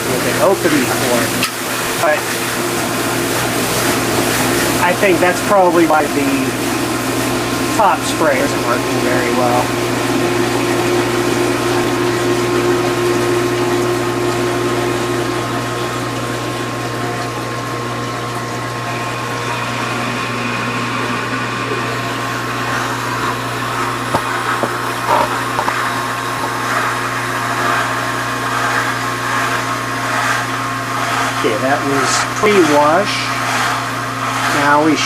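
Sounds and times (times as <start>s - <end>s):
water spraying: 0.0s - 17.7s, 21.7s - 35.0s
motor and pump hum: 0.0s - 35.0s.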